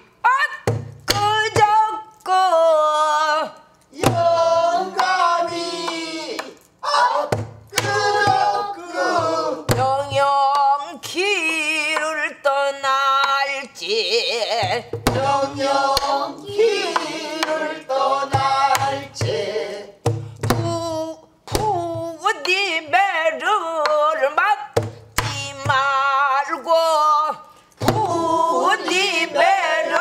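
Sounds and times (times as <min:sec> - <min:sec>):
person singing with vibrato: 0:01.2 - 0:30.0.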